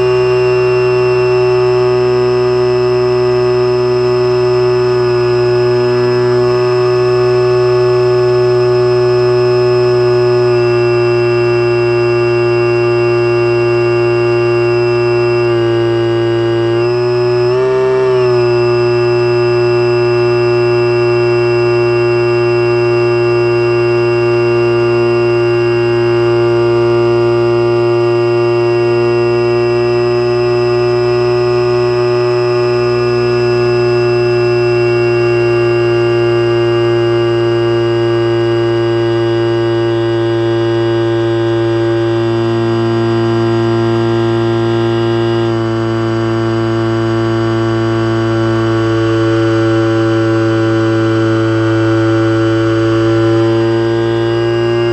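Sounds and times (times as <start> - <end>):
model plane motor and propeller: 0.0 - 54.9.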